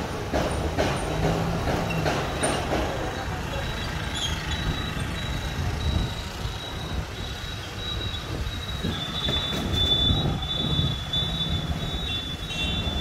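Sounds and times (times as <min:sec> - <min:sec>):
heavy traffic engine rumble: 0:00.0 - 0:13.0.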